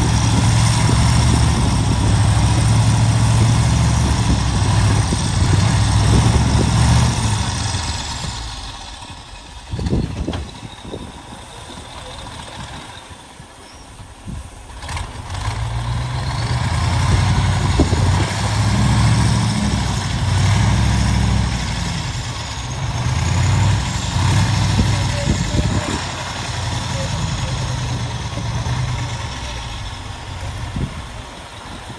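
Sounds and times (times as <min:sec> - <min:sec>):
heavy diesel engine rumbling: 0:00.0 - 0:31.9.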